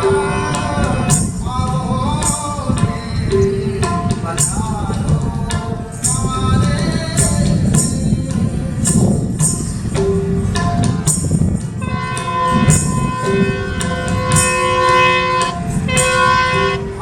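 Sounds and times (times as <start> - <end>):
folk music melody instrument: 0.0 - 17.0
hand percussion: 0.0 - 17.0.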